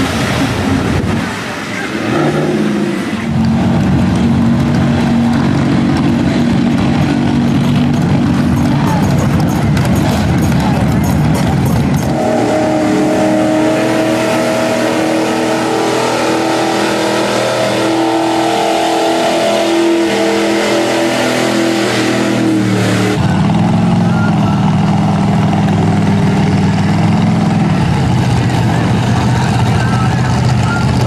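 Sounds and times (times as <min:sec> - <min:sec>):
low engine note rising and falling: 0:00.0 - 0:31.0
truck engines revving hard: 0:00.0 - 0:31.0.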